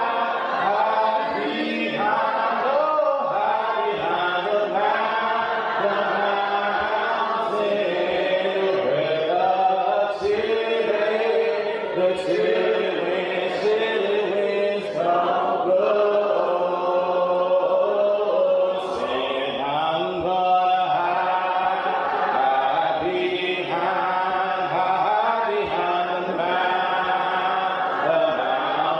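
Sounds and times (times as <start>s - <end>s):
congregation singing a hymn: 0.0s - 28.9s.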